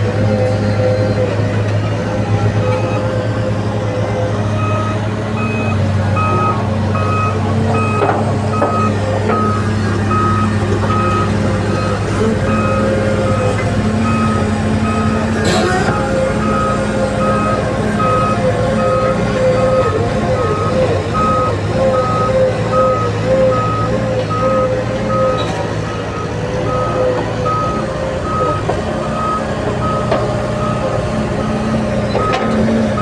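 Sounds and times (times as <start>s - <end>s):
diesel engine running: 0.0s - 33.0s
reversing alarm beeping: 0.1s - 33.0s.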